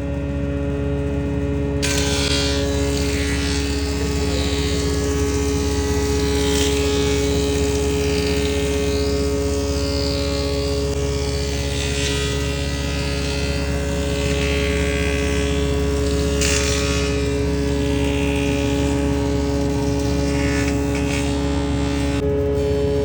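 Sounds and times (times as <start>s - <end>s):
woodworking machine motor hum: 0.0s - 23.0s
hiss: 1.8s - 22.2s.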